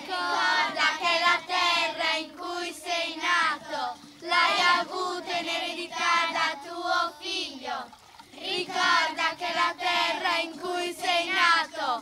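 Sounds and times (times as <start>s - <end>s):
children singing a chant: 0.0s - 12.0s.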